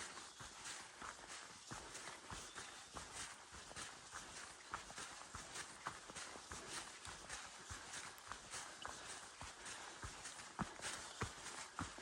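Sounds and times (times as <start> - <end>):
footsteps on dirt trail: 0.0 - 12.0.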